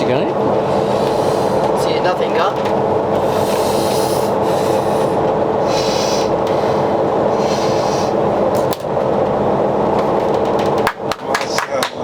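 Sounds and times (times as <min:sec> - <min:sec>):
boat engine droning: 0:00.0 - 0:11.3.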